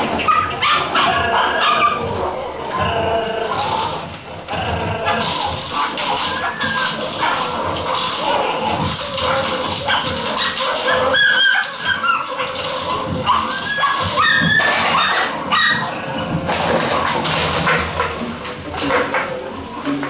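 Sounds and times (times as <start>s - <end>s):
puppies yipping and whining: 0.0s - 17.8s
knocks and clatter: 2.0s - 20.0s.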